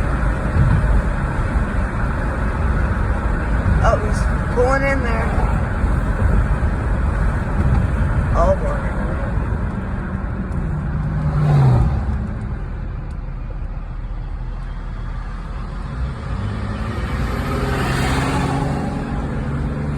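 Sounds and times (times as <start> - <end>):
vehicles passing on road: 0.0 - 19.9.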